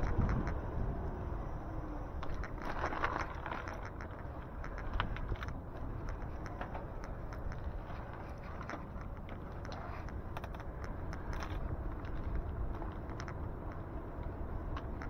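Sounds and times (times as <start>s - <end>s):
sharp ticks and clicks: 0.0s - 0.6s, 2.2s - 15.0s
low rumble of wind and road: 0.0s - 15.0s.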